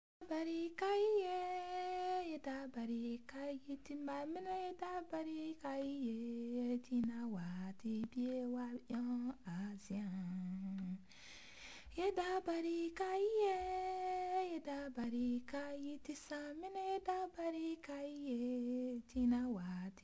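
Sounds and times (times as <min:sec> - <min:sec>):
woman singing unaccompanied: 0:00.2 - 0:11.1, 0:11.9 - 0:20.0.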